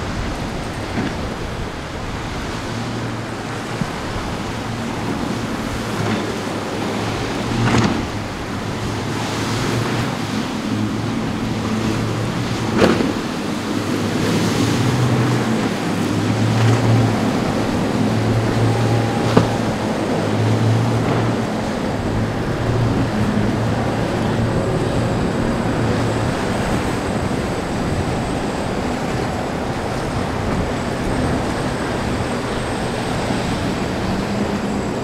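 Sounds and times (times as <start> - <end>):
motorboat engine droning: 0.0 - 35.0
waves breaking: 0.0 - 35.0.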